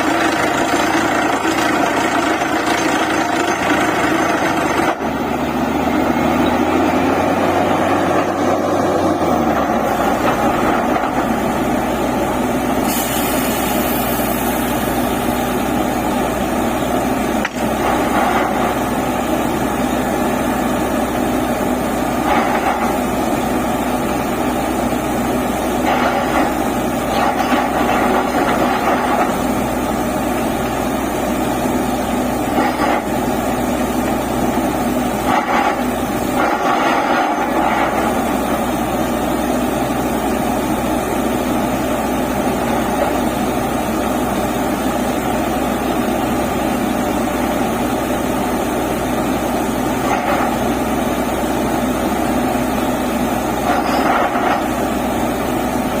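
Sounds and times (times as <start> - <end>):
drilling rig running: 0.0 - 56.0.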